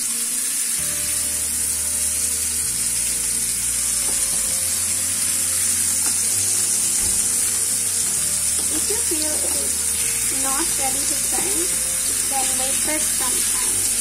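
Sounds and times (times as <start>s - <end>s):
fish sizzling in oil: 0.0s - 14.0s.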